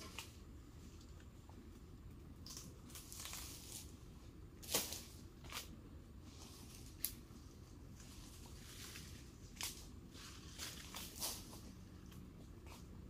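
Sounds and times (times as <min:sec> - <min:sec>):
palm fronds rustling and scraping: 0:00.0 - 0:01.2, 0:02.4 - 0:12.9.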